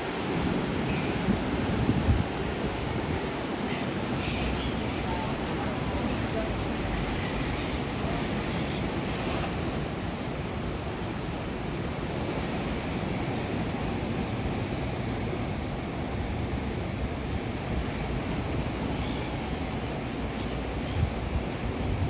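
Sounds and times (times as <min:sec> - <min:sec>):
ocean surf washing onto beach: 0:00.0 - 0:22.0
wind rumbling on microphone: 0:00.0 - 0:22.0.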